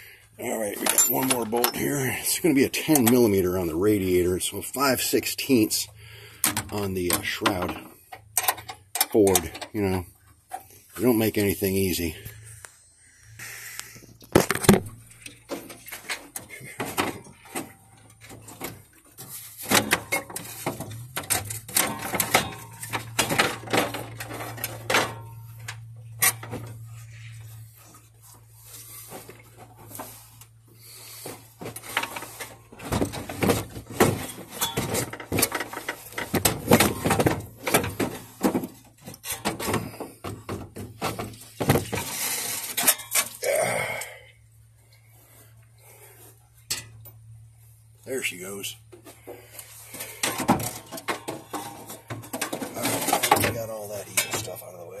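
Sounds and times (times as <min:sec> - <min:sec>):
low steady hum: 0:00.0 - 0:55.0
tools and metal parts clanking: 0:00.4 - 0:12.6, 0:14.1 - 0:43.4, 0:45.3 - 0:47.5, 0:48.1 - 0:55.0.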